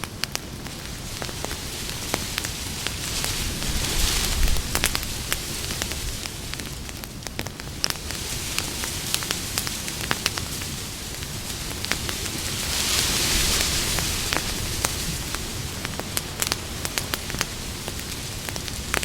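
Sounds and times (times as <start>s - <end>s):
campfire wood crackling and popping: 0.0s - 19.0s
fire hissing: 0.0s - 19.0s.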